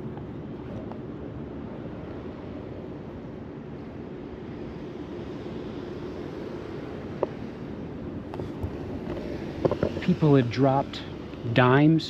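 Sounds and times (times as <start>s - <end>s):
faint hum: 0.0s - 12.0s
low rumbling background noise: 0.0s - 12.0s.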